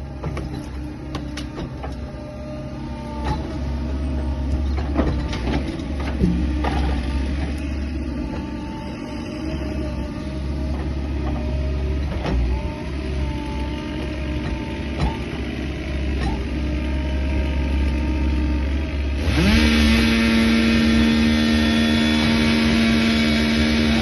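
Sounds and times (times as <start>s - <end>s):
excavator engine revving: 0.0s - 24.0s.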